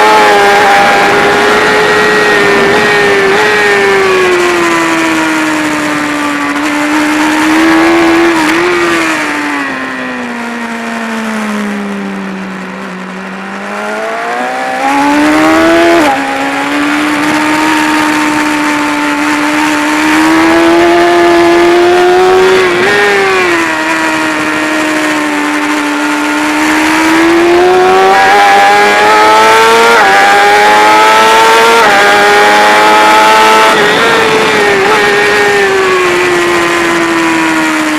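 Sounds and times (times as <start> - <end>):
wind rush: 0.0 - 9.3, 13.7 - 37.4
motorcycle engine revving: 0.0 - 37.9.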